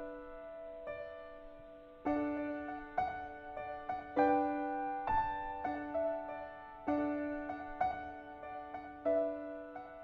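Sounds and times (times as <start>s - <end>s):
gentle piano notes: 0.0s - 10.0s.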